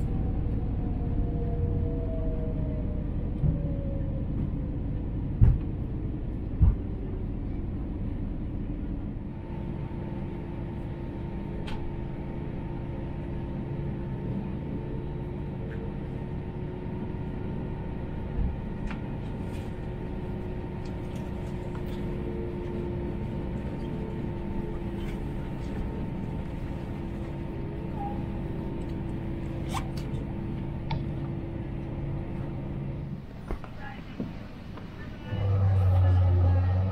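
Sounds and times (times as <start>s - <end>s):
jet engines humming: 0.0s - 36.9s.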